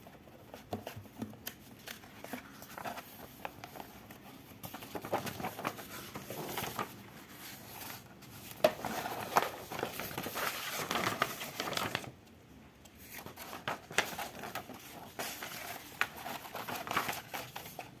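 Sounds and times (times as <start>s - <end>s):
packaging crinkling and rustling: 0.7s - 12.2s, 13.0s - 18.0s.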